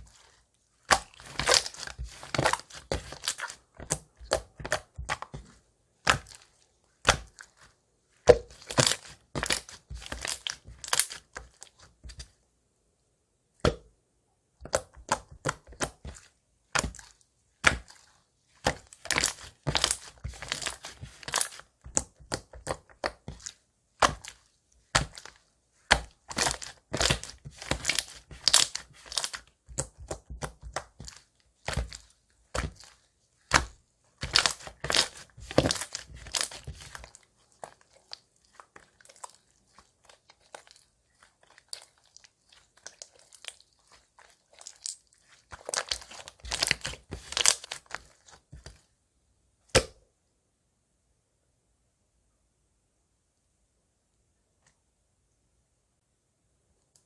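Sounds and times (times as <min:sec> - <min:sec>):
crunching and chewing food: 0:00.0 - 0:12.3, 0:14.7 - 0:48.9.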